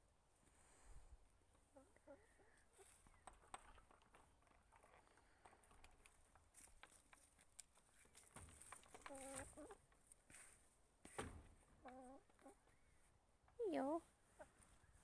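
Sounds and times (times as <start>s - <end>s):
chickens ticking and rustling: 1.4s - 15.0s.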